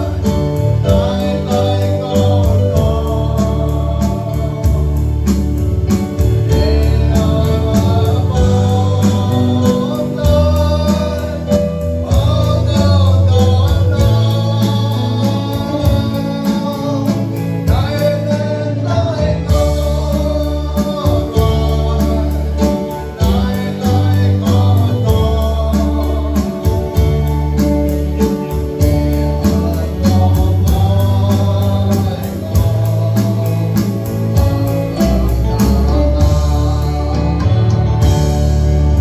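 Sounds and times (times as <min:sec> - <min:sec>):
acoustic and electric guitar: 0:00.0 - 0:39.0
bass line: 0:00.0 - 0:39.0
man singing a hymn: 0:00.0 - 0:39.0
steady drum beat: 0:00.0 - 0:39.0.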